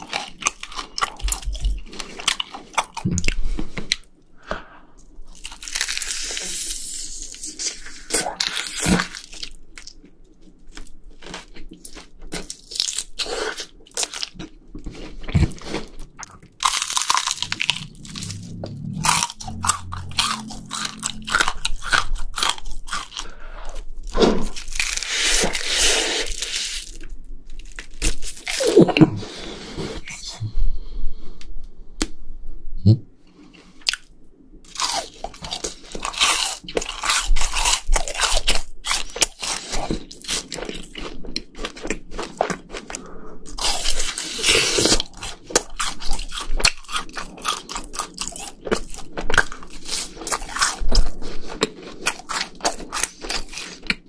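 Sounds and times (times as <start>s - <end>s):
crunching and chewing fried chicken: 0.0s - 4.1s, 5.0s - 29.0s, 34.7s - 54.0s.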